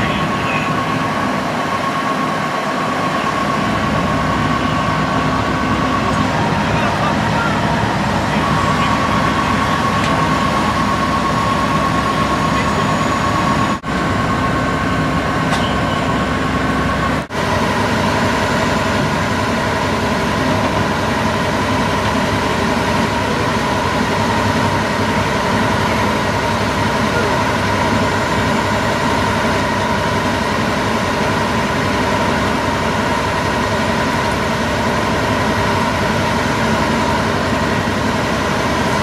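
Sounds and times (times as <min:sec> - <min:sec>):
fire truck engines running: 0:00.0 - 0:39.0
high whine: 0:00.0 - 0:39.0.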